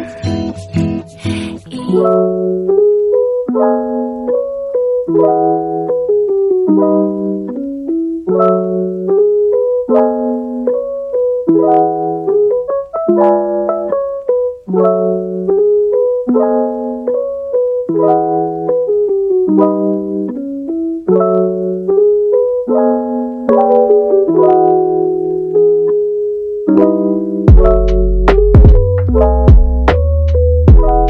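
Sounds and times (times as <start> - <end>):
piano chords: 0.0 - 31.0.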